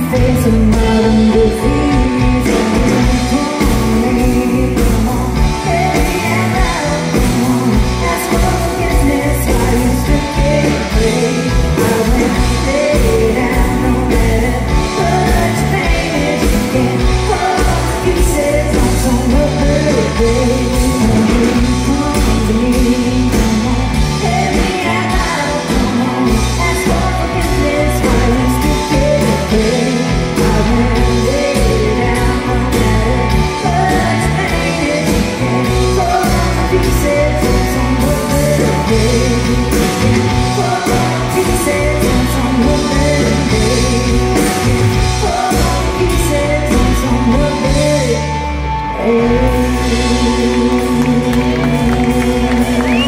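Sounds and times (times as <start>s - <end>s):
live rock band playing: 0.0s - 53.0s
woman singing: 0.0s - 53.0s.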